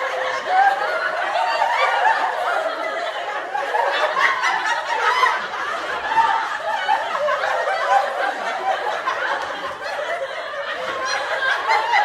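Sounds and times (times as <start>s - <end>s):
crowd laughing: 0.0s - 12.0s.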